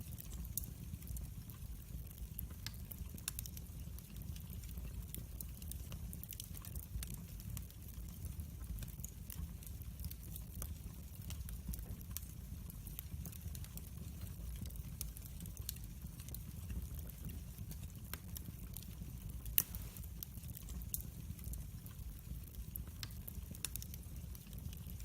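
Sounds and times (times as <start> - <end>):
log fire crackling: 0.0 - 25.0
low steady rumble of fire: 0.0 - 25.0.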